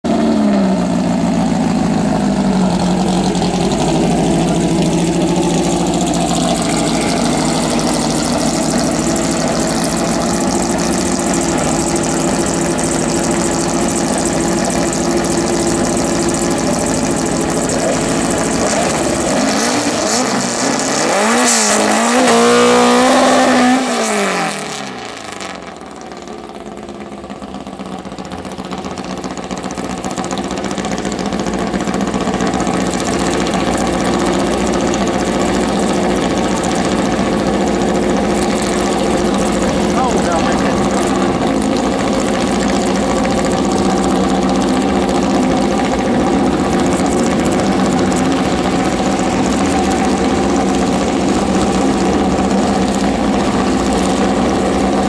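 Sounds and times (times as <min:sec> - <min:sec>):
van engine idling and revving: 0:00.0 - 0:55.0.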